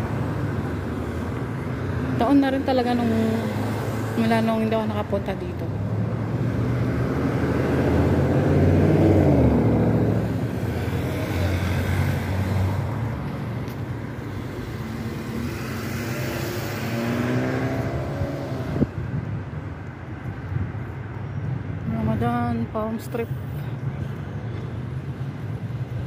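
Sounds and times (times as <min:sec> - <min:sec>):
car engines passing: 0:00.0 - 0:26.0.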